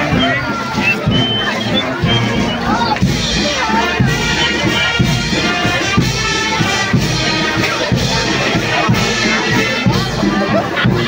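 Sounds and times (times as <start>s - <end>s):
marching brass band playing: 0.0s - 11.0s
steady drumbeat: 0.0s - 11.0s.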